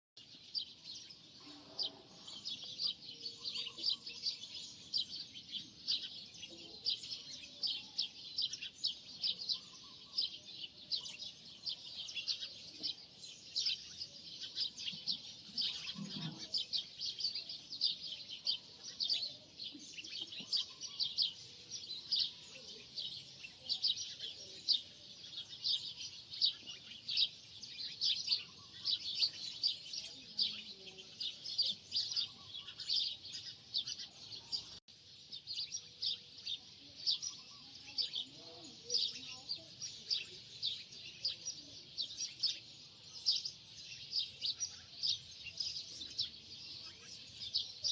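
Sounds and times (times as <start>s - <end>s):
birds chirping: 0.2s - 47.9s.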